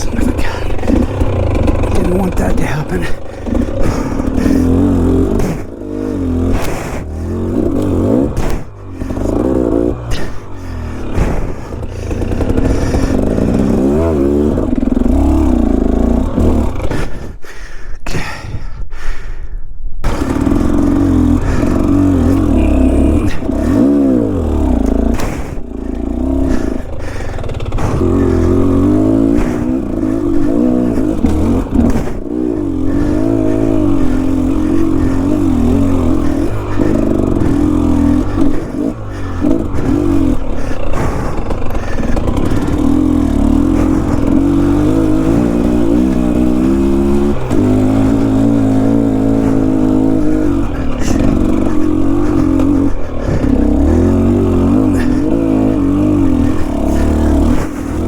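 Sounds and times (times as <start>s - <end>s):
dirt bike engine revving: 0.0s - 17.4s, 20.0s - 58.0s.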